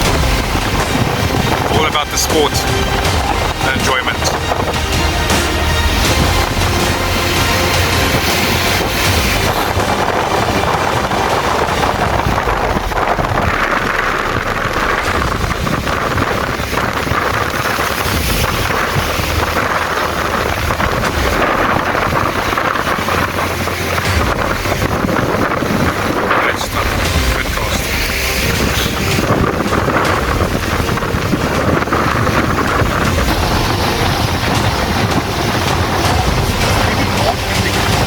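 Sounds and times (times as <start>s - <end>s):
strong wind buffeting microphone: 0.0s - 38.0s.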